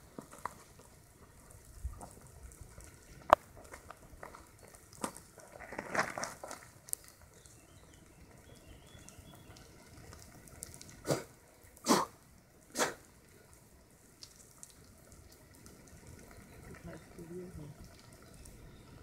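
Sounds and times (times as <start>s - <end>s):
ants crackling on needle thatch: 0.0s - 19.0s.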